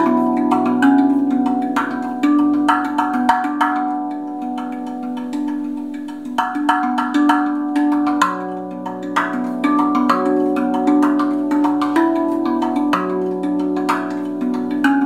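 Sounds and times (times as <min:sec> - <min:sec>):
steel tongue drum ringing notes: 0:00.0 - 0:15.0.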